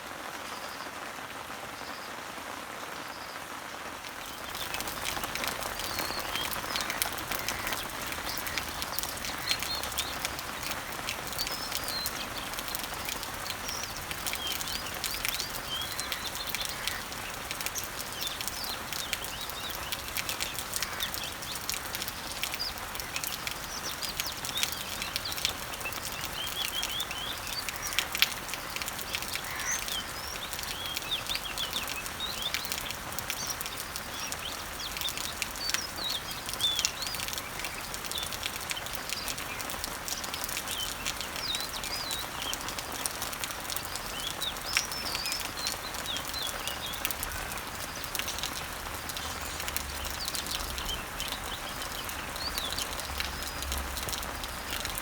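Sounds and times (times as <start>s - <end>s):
rain falling on leaves: 0.0s - 55.0s
birds chirping: 3.0s - 55.0s.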